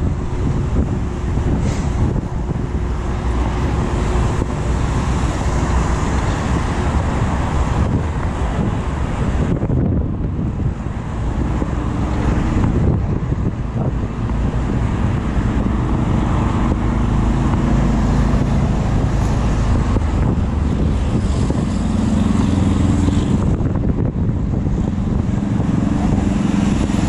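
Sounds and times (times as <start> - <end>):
road traffic rumble: 0.0 - 27.0
wind buffeting microphone: 0.0 - 27.0.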